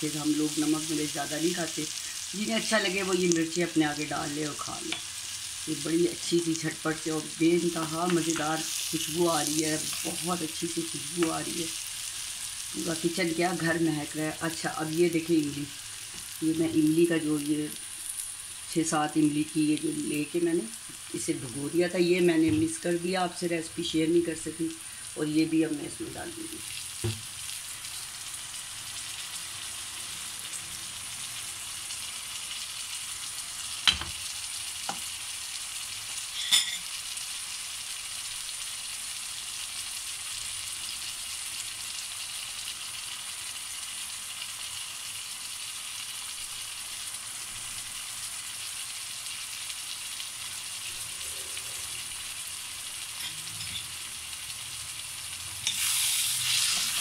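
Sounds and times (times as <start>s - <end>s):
vegetables sizzling in a wok: 0.0s - 57.0s.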